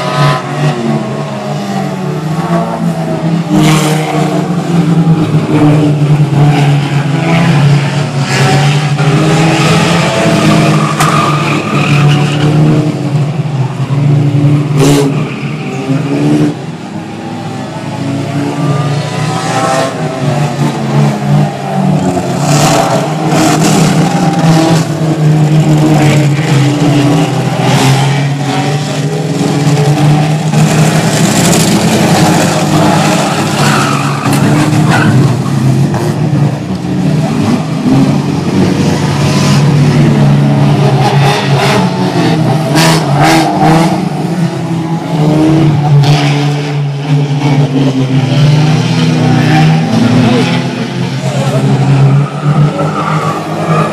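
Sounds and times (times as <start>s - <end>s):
race car engines revving: 0.0s - 53.9s
tyres skidding: 0.0s - 53.9s.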